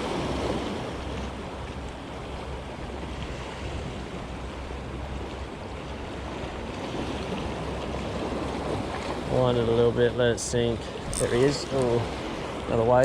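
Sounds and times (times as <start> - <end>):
surf on rocky shore: 0.0 - 13.0.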